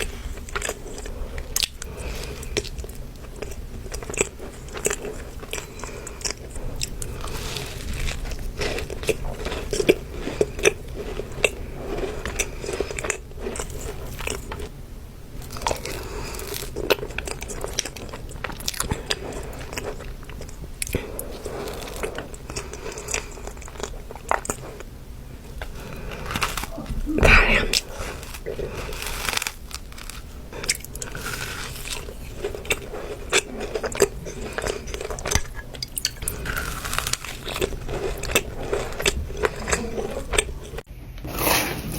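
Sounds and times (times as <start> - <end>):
cookie crunching: 0.0 - 40.9.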